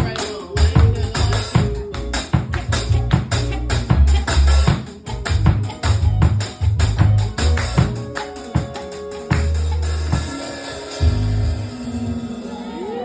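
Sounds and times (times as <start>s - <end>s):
heavy bass line: 0.0s - 8.4s, 9.2s - 13.0s
drums: 0.0s - 13.0s.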